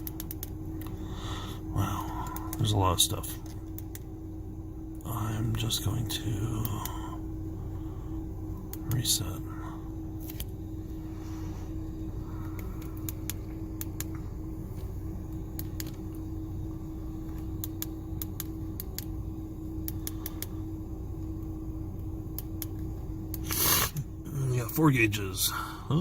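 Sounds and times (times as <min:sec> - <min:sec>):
truck idling low hum: 0:00.0 - 0:26.0.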